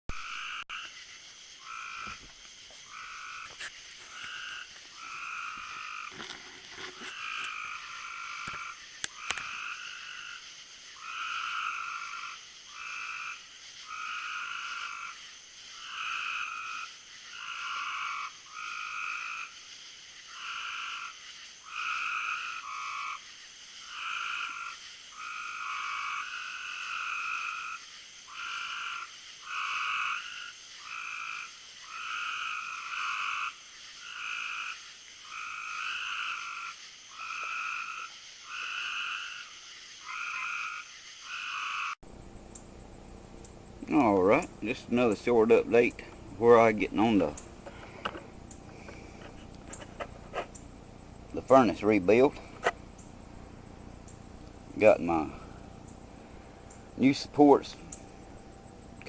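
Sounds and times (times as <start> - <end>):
frogs calling: 0.1 - 59.0.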